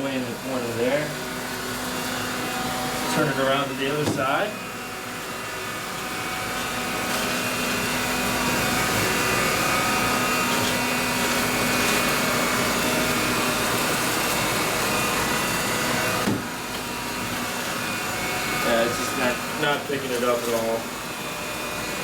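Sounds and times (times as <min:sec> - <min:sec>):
stick vacuum running on carpet: 0:00.0 - 0:22.0.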